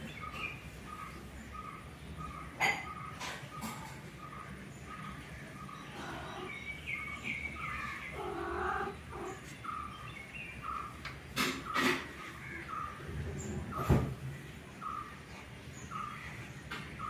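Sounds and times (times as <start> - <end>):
bird calls: 0.0 - 17.0.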